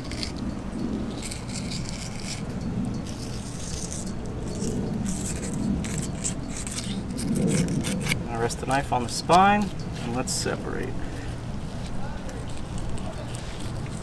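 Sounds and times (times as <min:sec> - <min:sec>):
low rumble: 0:00.0 - 0:13.0
knife scraping through fish flesh: 0:01.0 - 0:10.3, 0:11.7 - 0:14.0.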